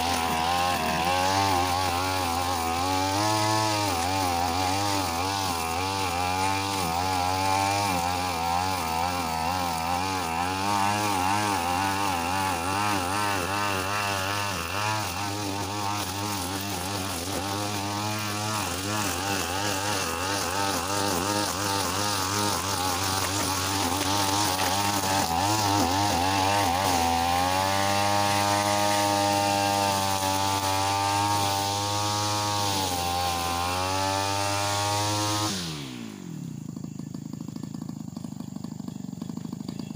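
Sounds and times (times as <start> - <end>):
brush cutter engine: 0.0 - 39.9.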